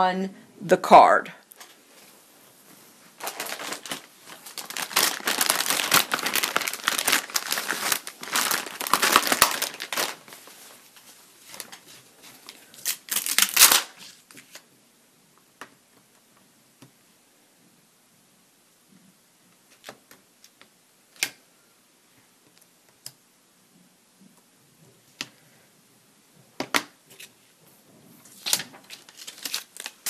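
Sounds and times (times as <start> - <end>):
crinkling and rustling of craft supplies: 1.5 - 17.1, 18.8 - 30.0.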